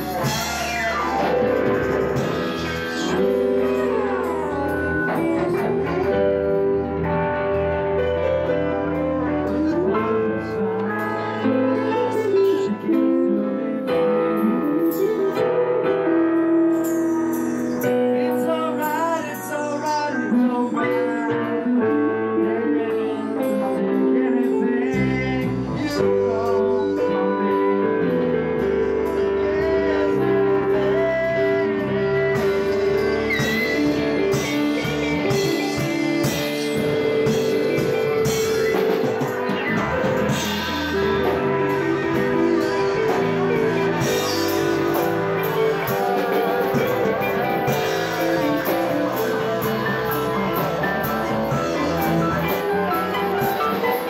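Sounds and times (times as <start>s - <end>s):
drum kit with cymbals: 0.0s - 12.9s, 23.4s - 54.0s
electric guitars through amplifiers: 0.0s - 54.0s.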